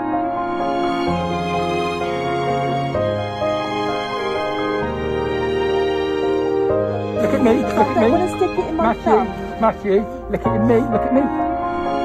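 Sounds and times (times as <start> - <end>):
slow gentle background music: 0.0 - 12.0.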